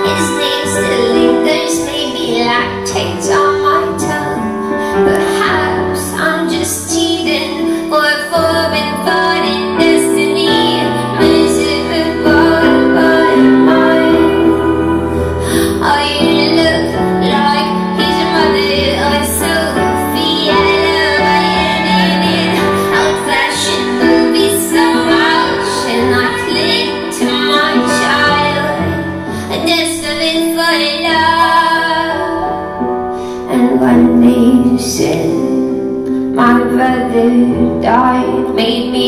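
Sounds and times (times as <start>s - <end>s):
women singing: 0.0s - 32.6s, 33.4s - 35.7s, 36.4s - 39.0s
acoustic accompaniment: 0.0s - 39.0s.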